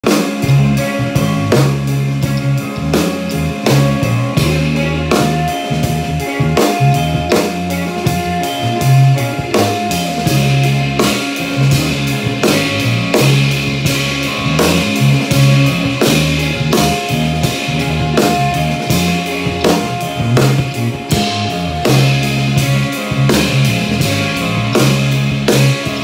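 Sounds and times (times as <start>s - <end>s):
drums and cymbals: 0.0s - 26.0s
electric guitar chords: 0.0s - 26.0s.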